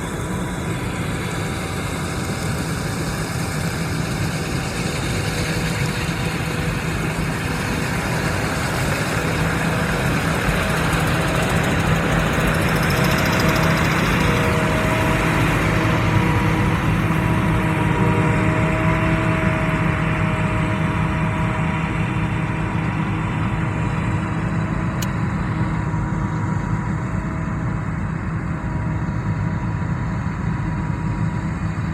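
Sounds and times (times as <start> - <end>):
combine harvester running: 0.0 - 31.9.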